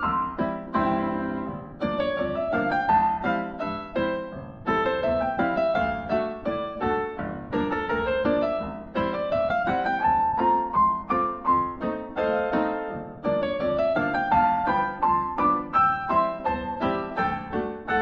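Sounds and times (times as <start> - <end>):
piano melody: 0.0 - 18.0.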